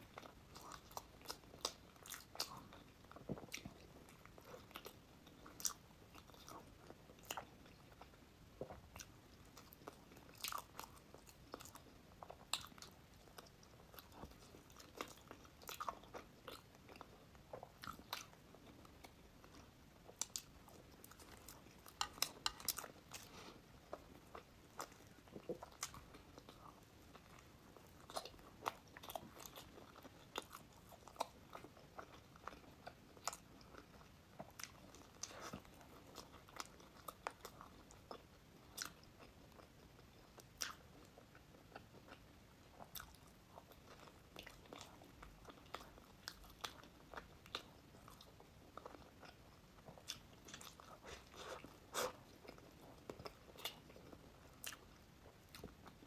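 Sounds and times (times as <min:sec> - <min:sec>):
crunchy eating and chewing: 0:00.0 - 0:56.0.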